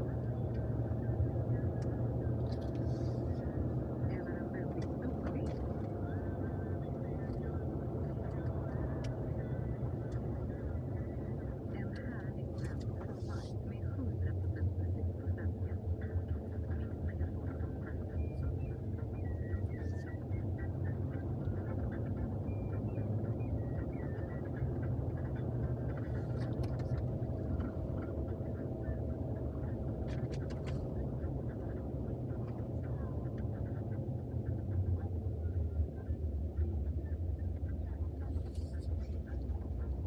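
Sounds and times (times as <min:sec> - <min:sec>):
road and engine drone in car cabin: 0:00.0 - 0:40.0.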